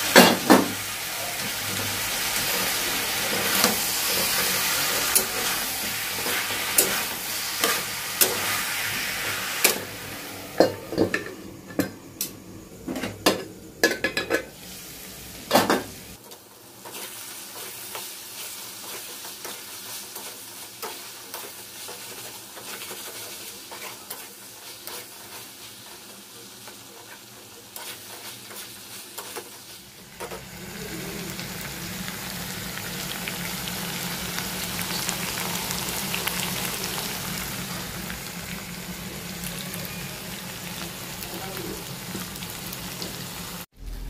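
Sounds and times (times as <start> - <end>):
chicken sizzling: 0.0 - 44.0.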